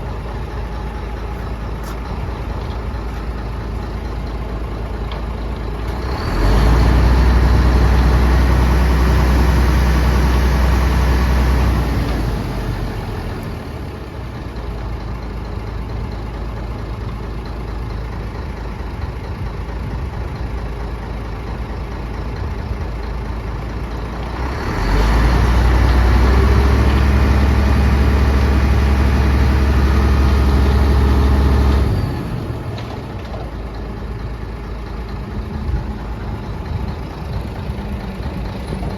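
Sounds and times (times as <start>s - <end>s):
diesel truck engine idling and revving: 0.0s - 38.9s.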